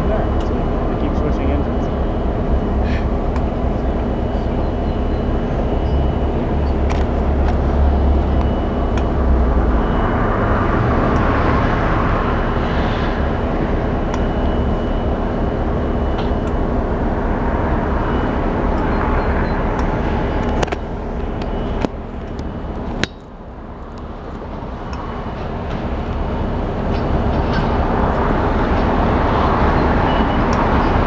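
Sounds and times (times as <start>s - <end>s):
diesel locomotive engine running: 0.0s - 31.0s.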